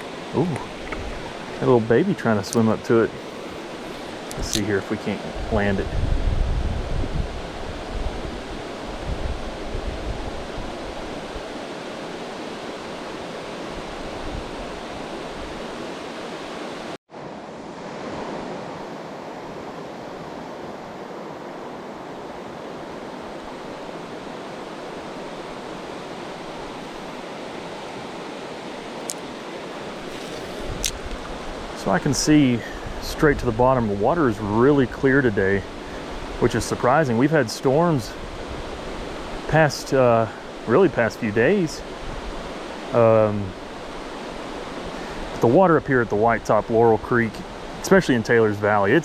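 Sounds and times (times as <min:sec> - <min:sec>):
creek water rushing: 0:00.0 - 0:49.0.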